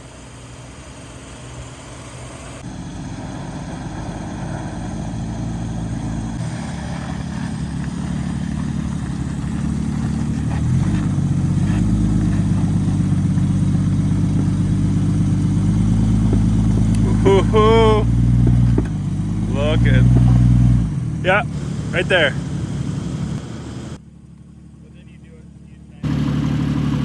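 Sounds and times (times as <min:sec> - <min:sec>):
off-road vehicle engine running: 0:00.0 - 0:27.0.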